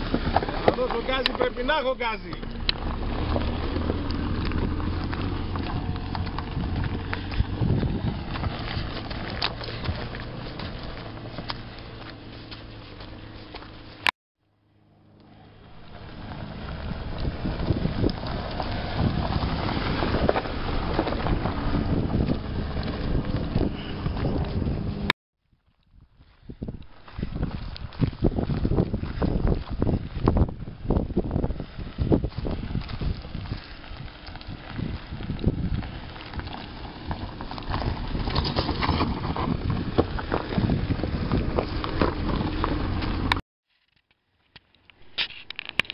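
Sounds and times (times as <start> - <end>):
wind rumbling on microphone: 0.0 - 1.6, 2.3 - 14.1, 15.7 - 43.4
tyres crunching over gravel: 0.0 - 14.1, 15.6 - 45.9
car engine running: 0.0 - 25.1, 28.8 - 43.4.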